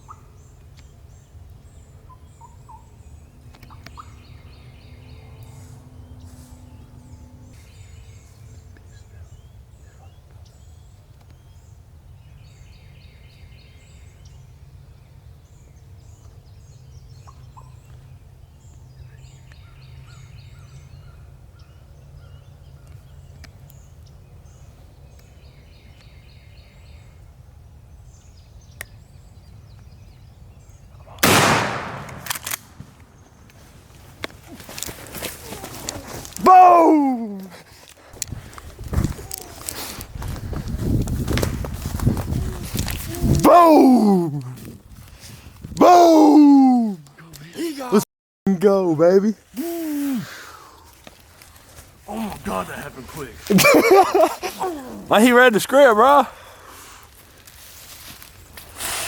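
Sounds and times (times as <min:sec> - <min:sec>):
songbirds chirping: 0:00.0 - 0:58.7.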